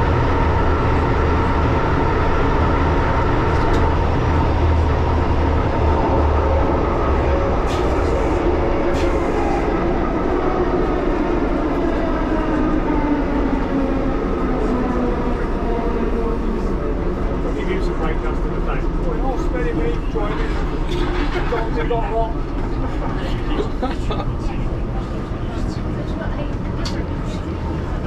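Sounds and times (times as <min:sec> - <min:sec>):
underground train rumble: 0:00.0 - 0:28.0.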